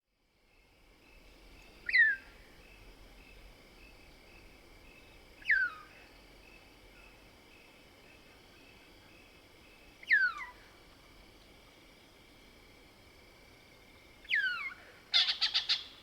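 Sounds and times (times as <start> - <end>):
insects trilling: 0.4 - 16.0.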